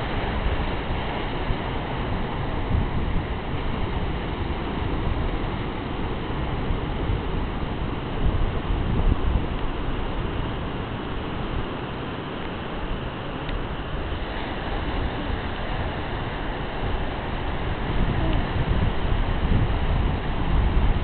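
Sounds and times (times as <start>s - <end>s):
ocean surf breaking: 0.0s - 21.0s
wind buffeting microphone: 0.0s - 21.0s.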